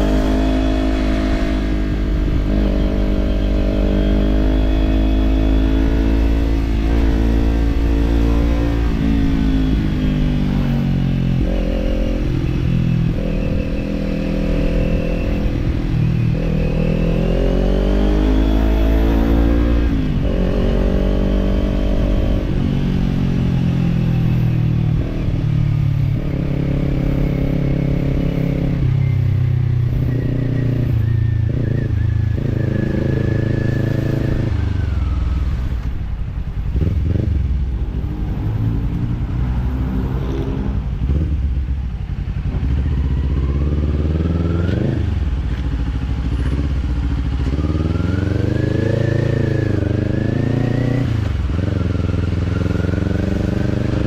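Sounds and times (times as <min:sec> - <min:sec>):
motorcycle engine while riding: 0:00.0 - 0:54.0.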